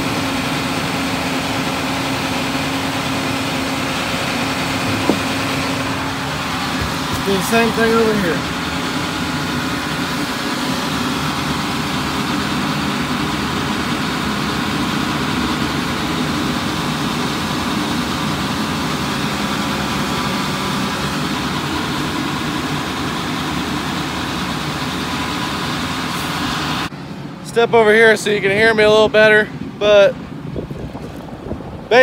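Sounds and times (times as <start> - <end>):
engine-driven pump running: 0.0 - 32.0.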